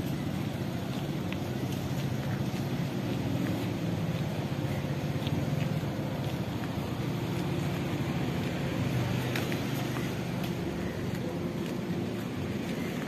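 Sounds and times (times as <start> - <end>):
hum of vehicle engines: 0.0 - 13.0.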